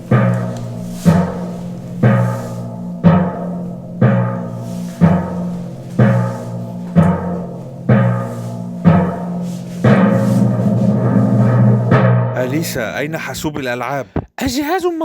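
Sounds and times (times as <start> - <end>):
low held note: 0.0 - 12.9
low timpani drum hits: 0.0 - 13.0.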